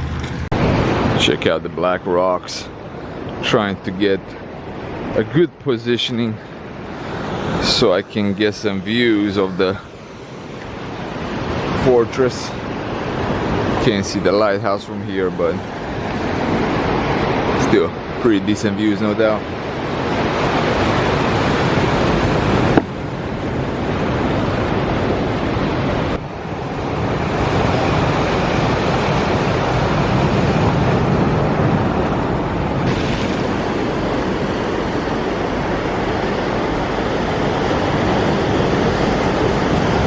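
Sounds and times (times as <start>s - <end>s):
wind on microphone: 0.0s - 3.5s, 6.1s - 40.0s
surf washing against rocks: 0.0s - 40.0s.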